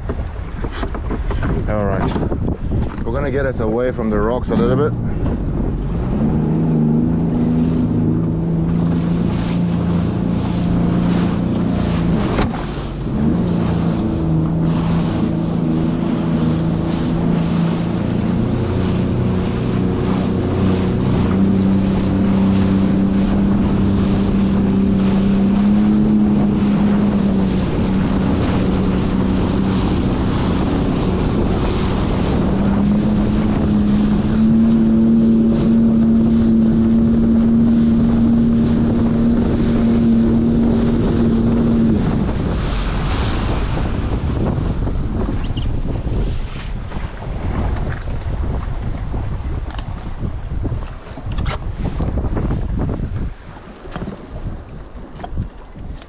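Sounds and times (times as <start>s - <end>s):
jet ski engine running: 0.0s - 56.0s
wind buffeting microphone: 0.0s - 56.0s.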